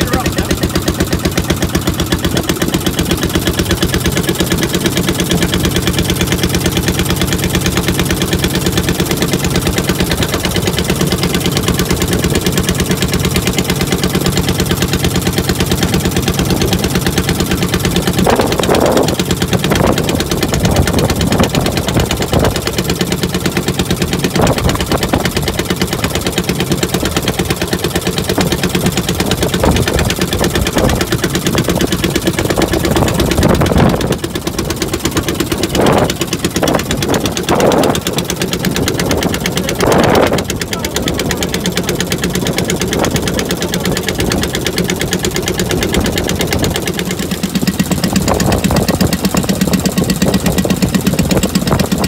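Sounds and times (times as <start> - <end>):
small boat engine running: 0.0 - 52.0.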